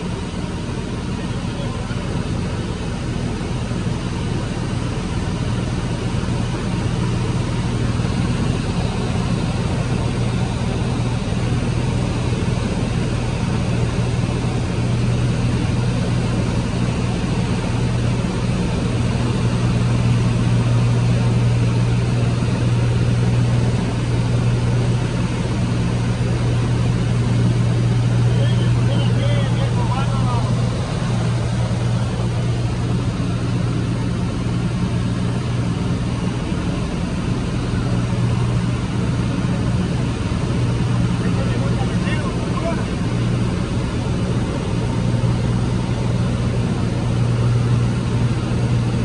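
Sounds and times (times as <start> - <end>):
light plane engine and propeller drone: 0.0 - 49.0.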